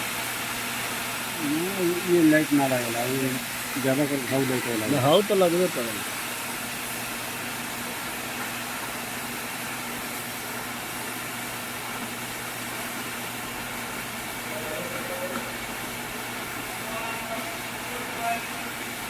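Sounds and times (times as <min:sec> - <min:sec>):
welding arc sizzling: 0:00.0 - 0:19.0.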